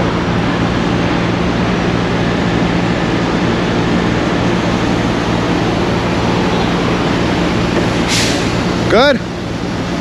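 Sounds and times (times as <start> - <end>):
diesel engine running at raised revs: 0.0 - 10.0.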